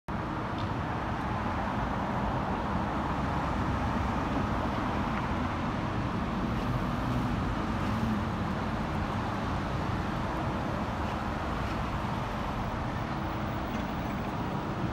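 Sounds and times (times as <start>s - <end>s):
city street traffic: 0.1s - 14.9s
cars driving past: 0.3s - 14.9s.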